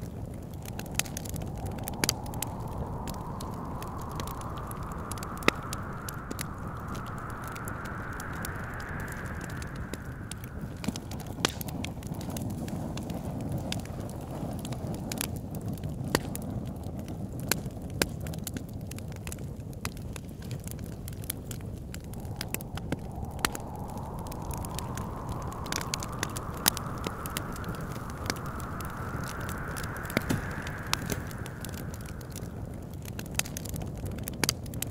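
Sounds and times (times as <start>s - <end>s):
whistling wind: 0.0s - 15.7s, 19.2s - 34.9s
wood fire crackling and popping: 0.0s - 34.9s.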